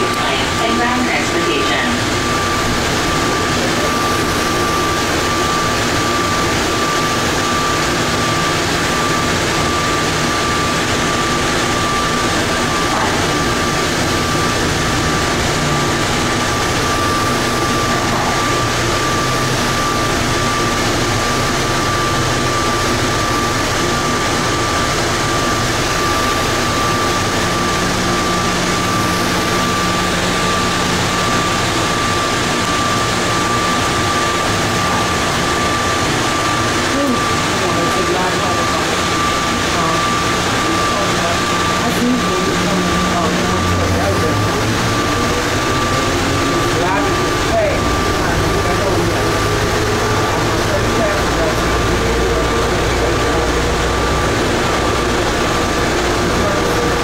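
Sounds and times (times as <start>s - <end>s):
high-pitched whine: 0.0s - 57.0s.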